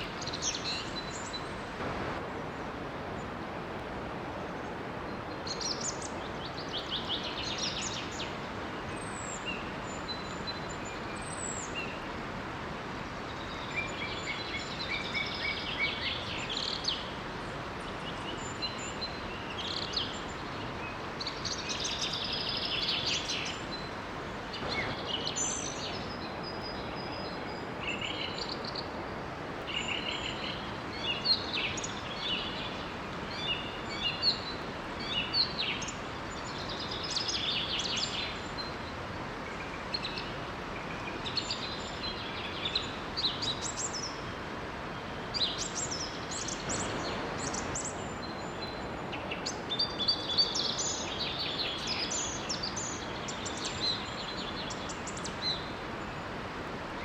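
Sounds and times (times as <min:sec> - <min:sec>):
small waterfall rushing: 0:00.0 - 0:57.0
songbirds singing and chirping: 0:00.0 - 0:57.0.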